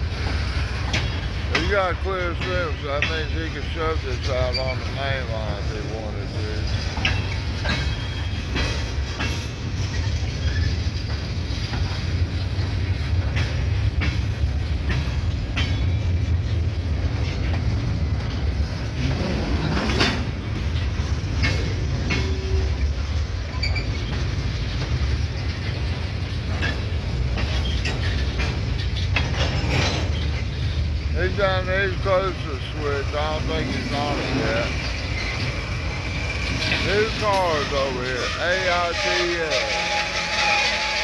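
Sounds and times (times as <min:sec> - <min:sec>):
diesel locomotive rumble: 0:00.0 - 0:41.0
train cars clanking: 0:00.0 - 0:41.0.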